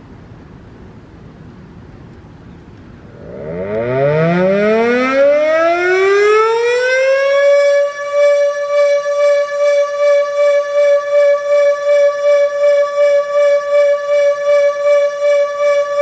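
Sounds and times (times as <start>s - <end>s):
warning siren winding up: 3.1s - 16.0s.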